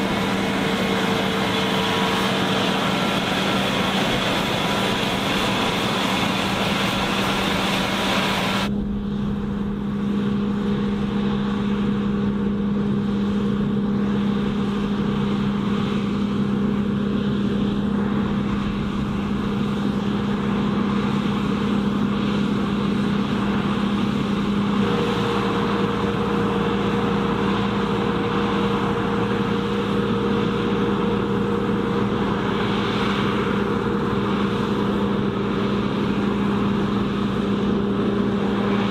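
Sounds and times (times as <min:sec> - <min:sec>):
diesel farm machinery engine: 0:00.0 - 0:38.9.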